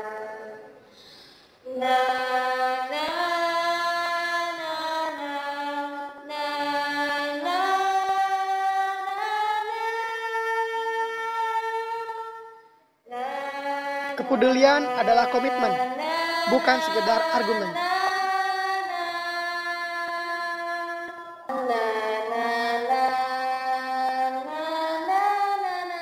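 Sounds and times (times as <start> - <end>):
long held sung notes: 1.6 - 26.0.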